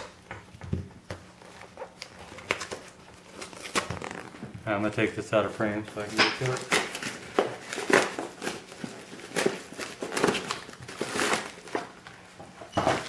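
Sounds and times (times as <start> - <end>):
packaging rustling and crinkling: 1.1 - 13.0.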